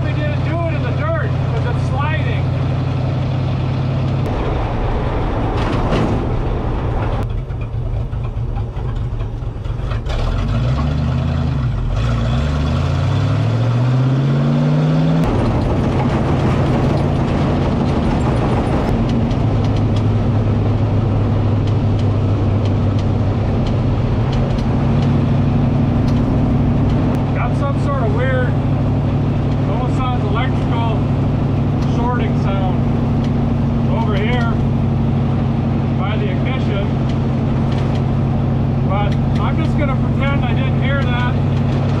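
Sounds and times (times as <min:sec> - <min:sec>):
race car engine accelerating: 0:00.0 - 0:42.0.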